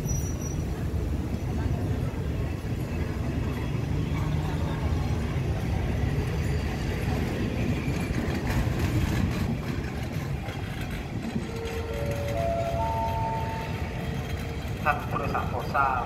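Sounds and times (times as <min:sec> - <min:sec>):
train wheels rumbling on rails: 0:00.0 - 0:16.0
train wheel clacks: 0:02.7 - 0:16.0.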